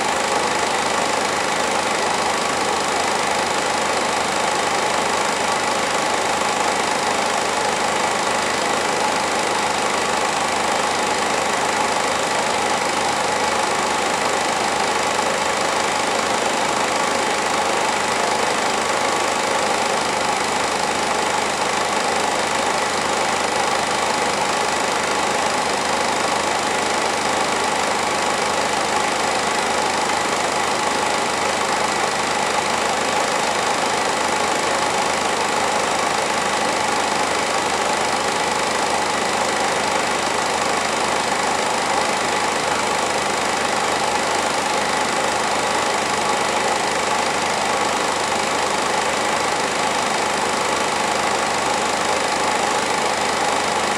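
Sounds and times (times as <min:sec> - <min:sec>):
film projector whirring and rattling: 0:00.0 - 0:53.9.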